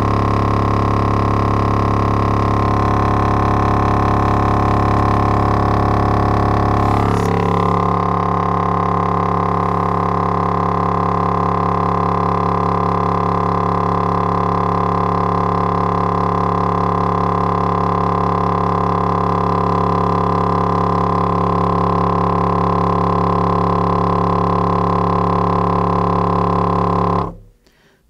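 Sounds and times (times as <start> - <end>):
subwoofer low test tone drone: 0.0 - 27.8.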